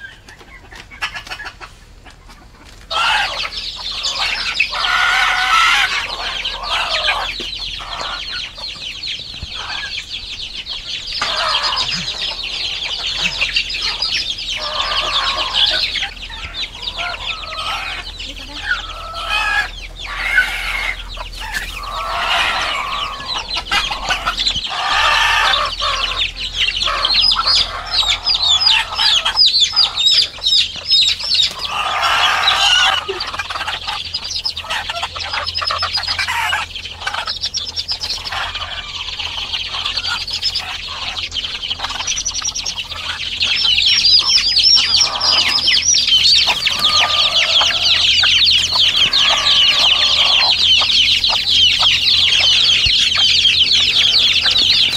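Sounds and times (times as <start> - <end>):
chicks peeping: 0.0 - 54.9
lower clucking calls: 0.0 - 54.9.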